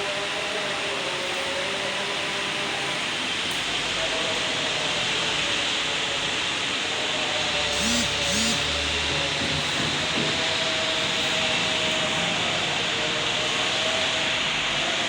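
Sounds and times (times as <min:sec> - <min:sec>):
lathe cutting hiss: 0:00.0 - 0:15.0.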